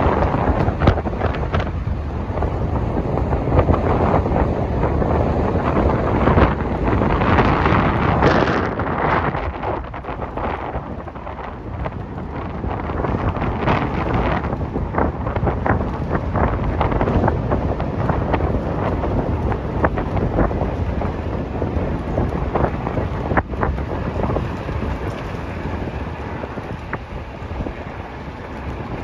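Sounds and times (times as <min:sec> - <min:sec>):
road noise rumble: 0:00.0 - 0:29.0
wind buffeting microphone: 0:00.0 - 0:29.0.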